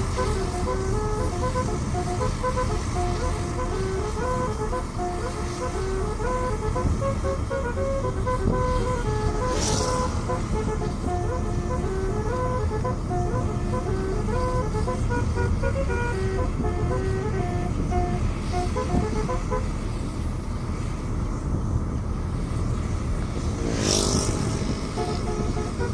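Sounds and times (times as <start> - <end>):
bus horn playing a tune: 0.0 - 20.3, 23.6 - 25.9
steady low rumble: 0.0 - 23.5.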